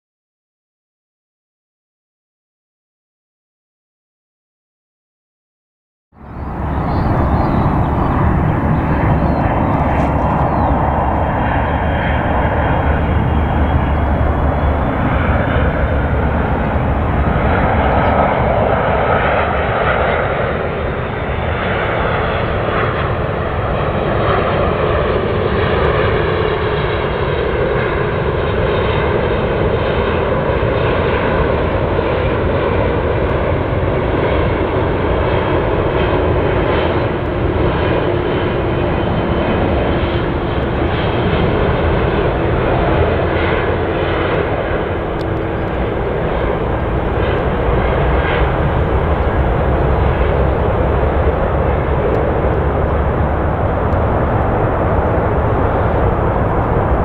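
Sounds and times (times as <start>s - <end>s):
jet airliner rushing: 6.2s - 57.0s.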